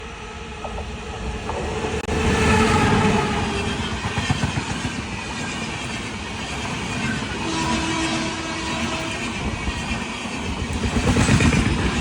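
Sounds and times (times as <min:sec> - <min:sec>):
train wheels rattling on rails: 0:00.6 - 0:12.0.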